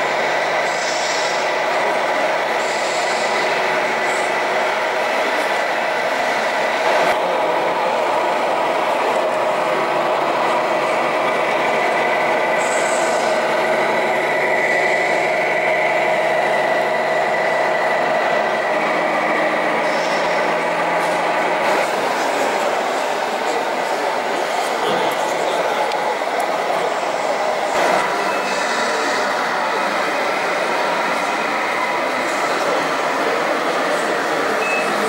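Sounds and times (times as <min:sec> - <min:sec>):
continuous motor whine: 0:00.0 - 0:35.0.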